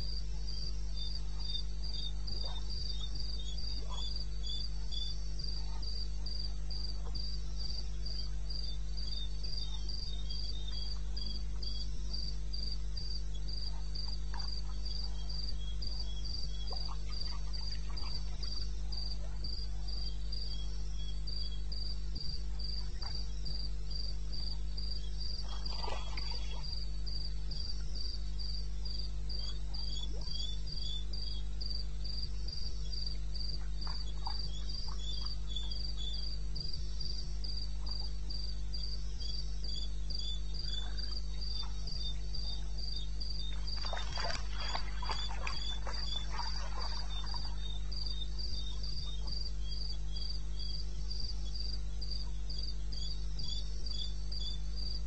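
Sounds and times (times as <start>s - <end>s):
cricket high-pitched chirps: 0.0s - 55.0s
low steady hum: 0.0s - 55.0s
lower cricket chirps: 0.0s - 55.0s.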